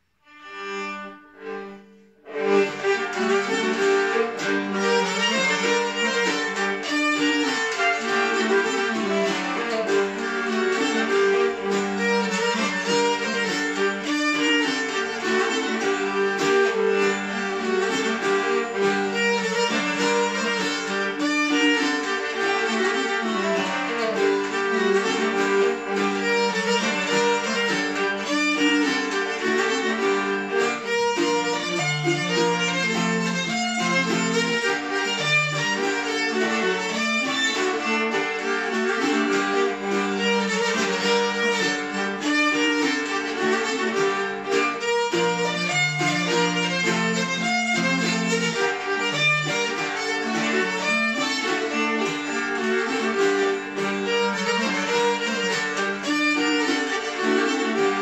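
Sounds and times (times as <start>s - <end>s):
bowed nyckelharpa melody: 0.0s - 58.0s
clarinet: 0.0s - 58.0s
plucked string instrument: 0.0s - 58.0s.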